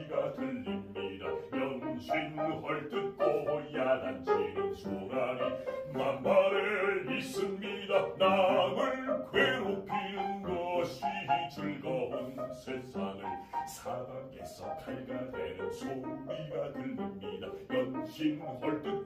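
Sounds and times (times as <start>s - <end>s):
bass voice singing: 0.0s - 19.0s
piano accompaniment: 0.0s - 19.0s.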